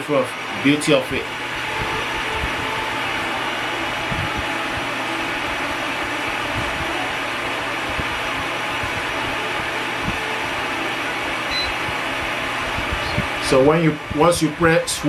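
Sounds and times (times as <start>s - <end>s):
low motor hum: 0.0s - 14.9s
fan blowing air: 0.0s - 15.0s.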